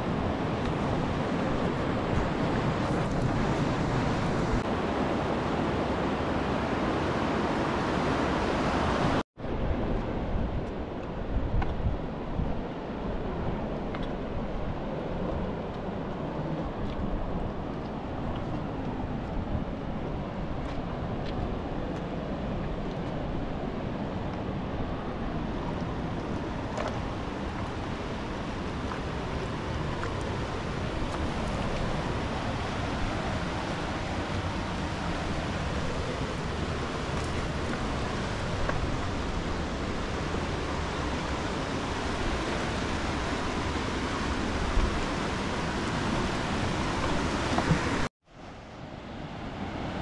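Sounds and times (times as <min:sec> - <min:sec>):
wind buffeting microphone: 0:00.0 - 0:04.7, 0:08.9 - 0:48.1
rushing water: 0:00.0 - 0:50.0.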